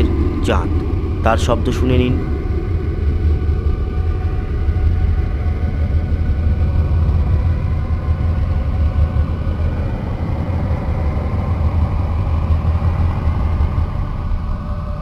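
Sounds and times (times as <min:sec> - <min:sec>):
deep droning rumble: 0:00.0 - 0:15.0.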